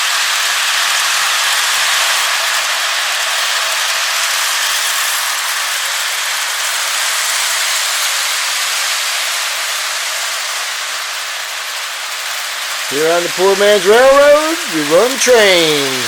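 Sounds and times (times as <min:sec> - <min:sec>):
model train rattling on track: 0:00.0 - 0:16.0.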